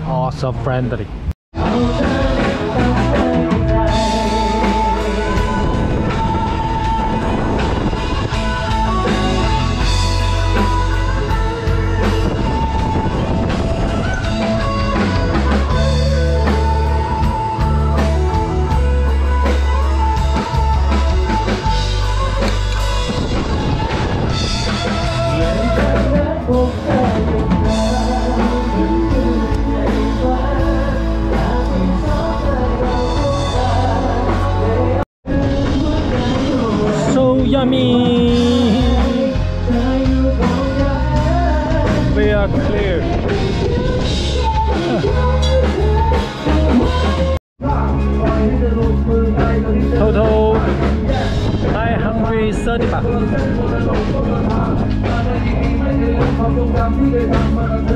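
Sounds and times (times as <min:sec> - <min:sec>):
rock music with singing: 0:01.0 - 0:57.9.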